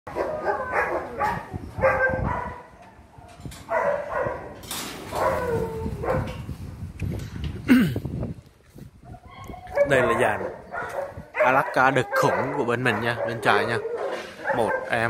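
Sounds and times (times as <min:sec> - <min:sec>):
dogs barking and whining: 0:00.1 - 0:06.5, 0:09.1 - 0:15.0.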